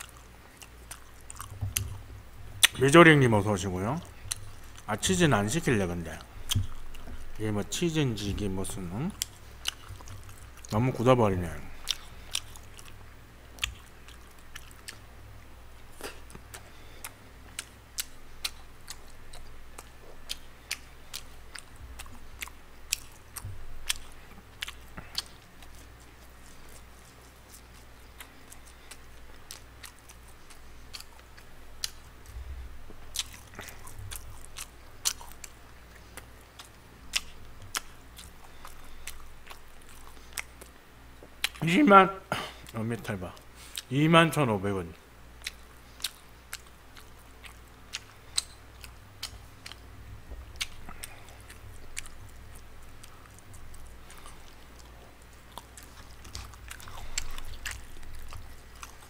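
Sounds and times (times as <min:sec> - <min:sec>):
close chewing with smacks: 0:00.0 - 0:02.9, 0:03.6 - 0:41.8, 0:42.5 - 0:43.9, 0:45.0 - 0:59.0.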